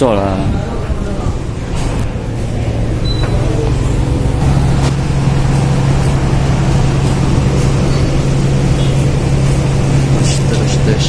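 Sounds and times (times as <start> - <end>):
ship engine drone: 0.0 - 11.0.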